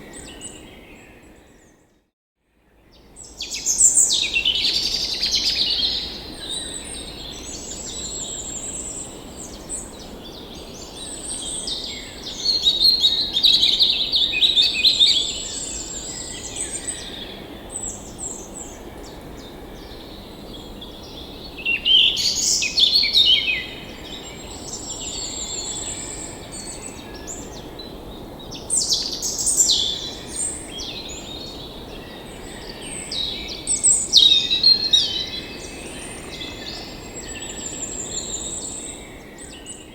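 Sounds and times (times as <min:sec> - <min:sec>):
birds singing and chirping: 0:03.2 - 0:39.9.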